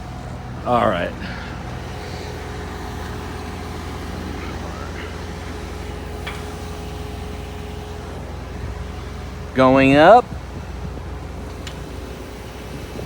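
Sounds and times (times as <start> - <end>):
crane engine droning: 0.0 - 13.0
hydraulic whine: 0.0 - 13.0.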